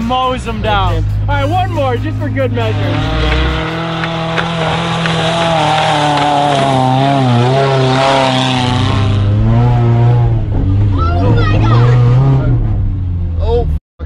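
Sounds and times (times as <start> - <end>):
car engine revving under load: 0.5 - 13.6.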